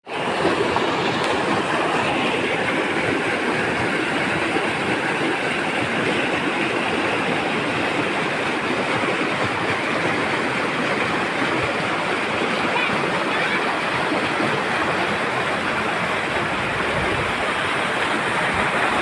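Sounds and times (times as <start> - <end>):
river water rushing over rocks: 0.1 - 19.0.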